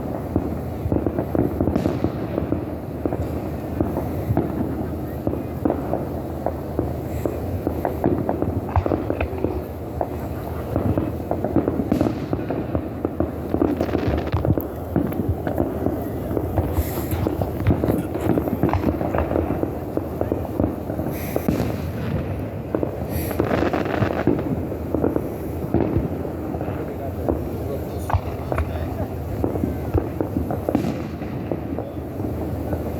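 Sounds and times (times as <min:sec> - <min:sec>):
fireworks popping and crackling: 0:00.0 - 0:32.9.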